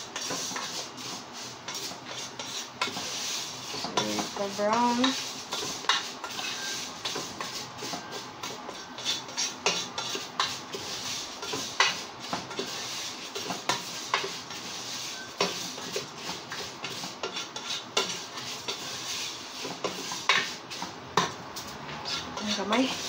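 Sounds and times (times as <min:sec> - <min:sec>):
oil frying hiss: 0:00.0 - 0:23.0
spoon scraping and knocking a pot: 0:01.7 - 0:23.0.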